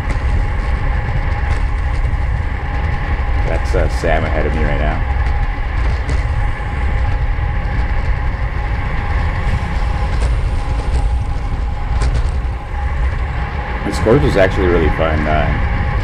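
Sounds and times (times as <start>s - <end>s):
bicycle road rumble: 0.0s - 16.0s
wind buffeting microphone: 0.0s - 16.0s.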